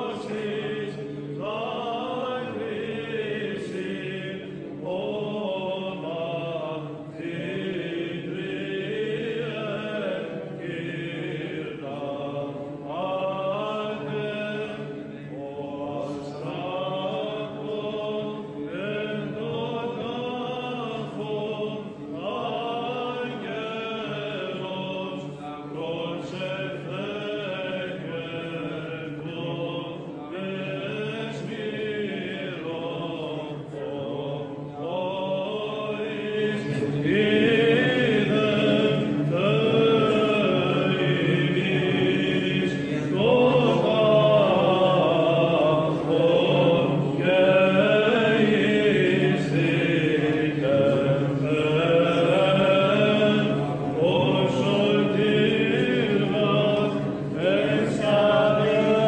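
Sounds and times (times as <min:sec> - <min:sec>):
man chanting through a microphone: 0:00.0 - 0:59.0.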